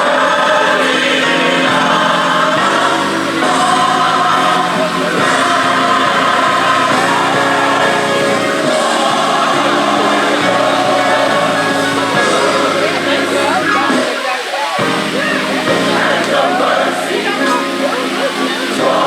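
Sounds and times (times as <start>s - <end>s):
choir singing gospel music: 0.0s - 19.0s
instrumental accompaniment: 0.0s - 19.0s.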